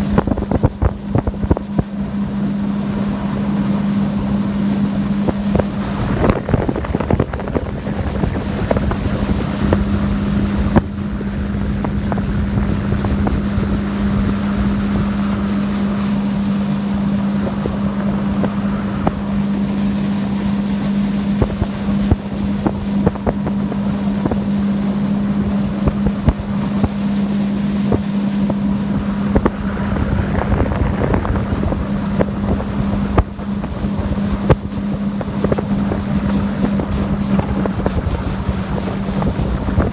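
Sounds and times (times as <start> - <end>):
outboard motor droning: 0.0 - 39.9
rushing water: 0.0 - 39.9
wind on microphone: 0.0 - 39.9.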